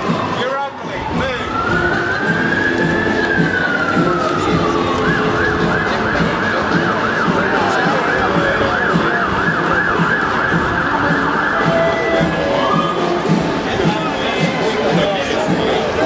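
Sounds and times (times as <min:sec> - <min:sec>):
emergency siren yelping: 0:00.0 - 0:14.9
dense street noise: 0:00.0 - 0:16.0.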